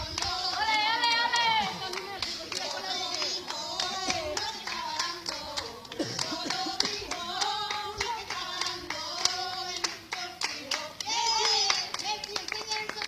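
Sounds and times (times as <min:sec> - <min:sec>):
voices singing a folk song: 0:00.0 - 0:13.0
women clapping in rhythm: 0:00.0 - 0:13.0.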